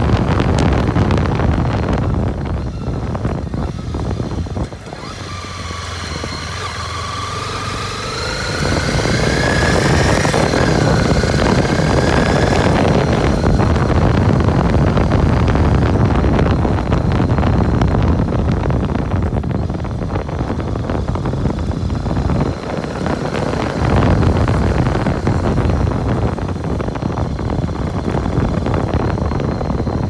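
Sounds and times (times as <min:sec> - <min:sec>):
motorcycle engine accelerating: 0:00.0 - 0:30.0
wind rushing on microphone: 0:00.0 - 0:30.0.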